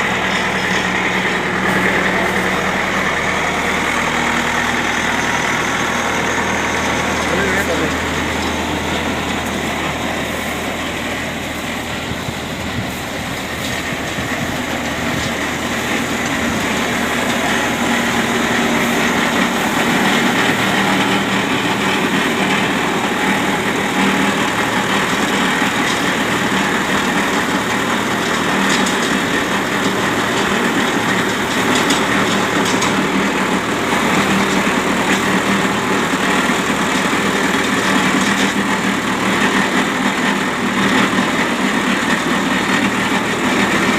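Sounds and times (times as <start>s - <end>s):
baler machinery clattering: 0.0s - 43.9s
tractor engine running: 0.0s - 43.9s.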